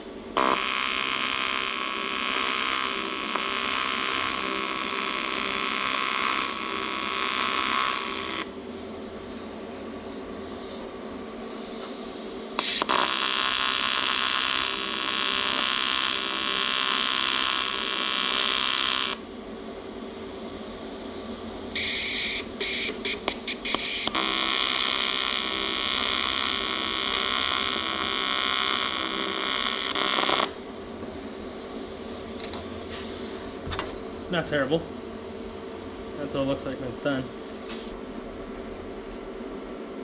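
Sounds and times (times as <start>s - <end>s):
welding arc buzzing: 0.0s - 9.4s, 12.5s - 20.3s, 21.6s - 38.0s
machine hum: 0.0s - 40.0s.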